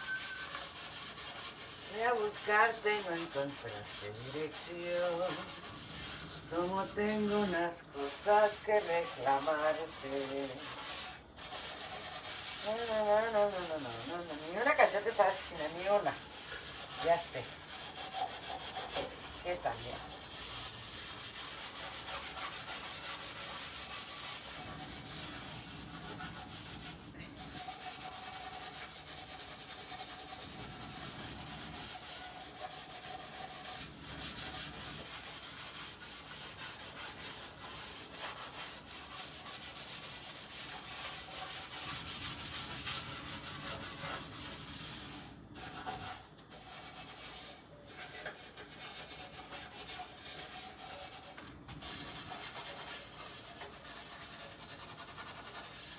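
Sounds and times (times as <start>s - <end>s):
scrubbing stove with scouring powder: 0.0s - 55.9s.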